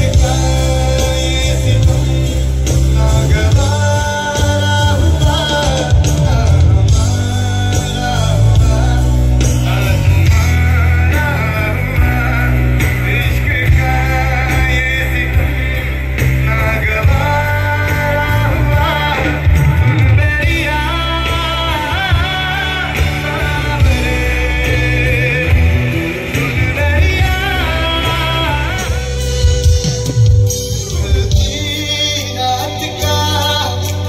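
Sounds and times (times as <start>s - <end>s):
drum kit: 0.0s - 34.0s
electric guitars: 0.0s - 34.0s
person singing: 0.0s - 34.0s.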